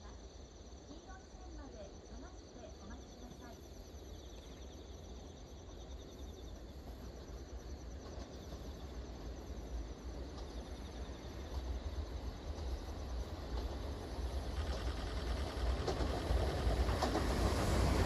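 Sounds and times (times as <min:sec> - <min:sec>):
insects chirping: 0:00.0 - 0:18.0
low rumble of approaching train: 0:00.0 - 0:18.0.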